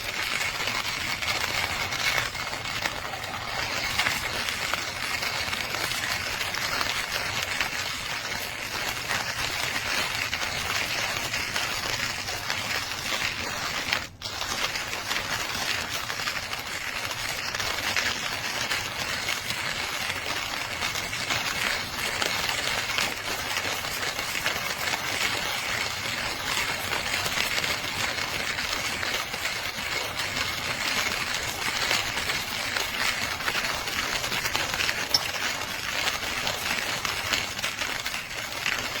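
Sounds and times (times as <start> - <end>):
hand-cranked coffee grinder: 0.0 - 39.0.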